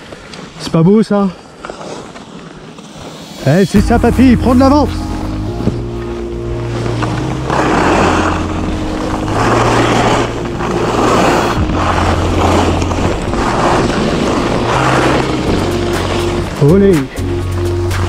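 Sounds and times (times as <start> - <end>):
skis scraping over icy snow: 0.0 - 18.0.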